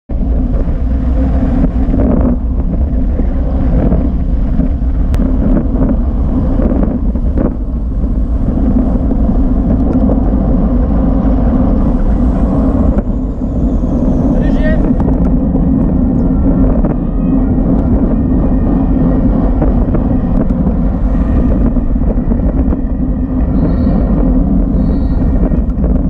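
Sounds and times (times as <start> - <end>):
tyre and road rumble: 0.1 - 26.0
wind buffeting microphone: 0.1 - 26.0.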